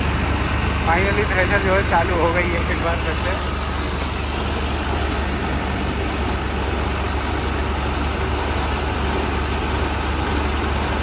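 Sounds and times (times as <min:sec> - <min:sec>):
tractor and thresher droning: 0:00.0 - 0:11.0.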